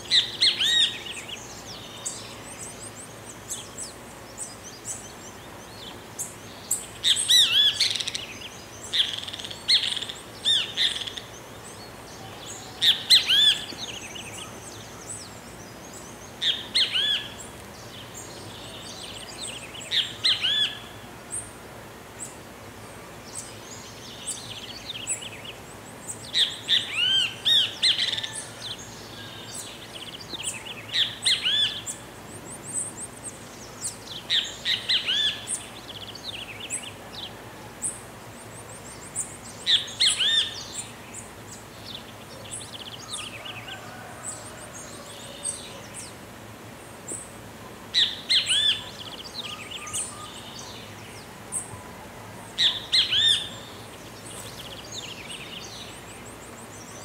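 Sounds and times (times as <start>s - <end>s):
bird calling: 0.0s - 21.5s, 24.2s - 33.2s, 33.8s - 38.0s, 38.6s - 46.2s, 47.1s - 57.0s.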